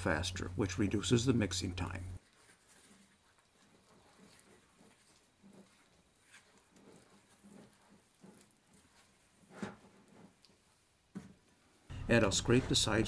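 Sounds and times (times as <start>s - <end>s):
spoon stirring bread dough: 2.2s - 13.0s.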